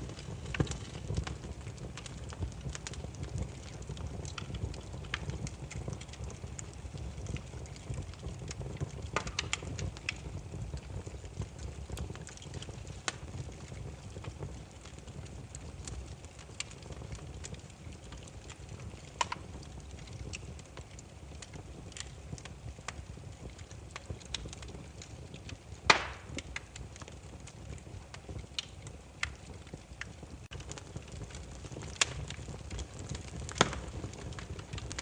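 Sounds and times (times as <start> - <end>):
fire rumbling: 0.0 - 35.0
firewood crackling and popping: 0.0 - 35.0.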